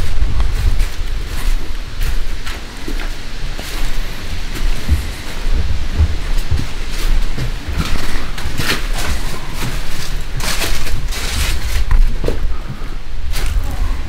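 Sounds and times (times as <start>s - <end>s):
footsteps crunching on rock: 0.0s - 14.0s
wind rumble on microphone: 0.0s - 14.0s.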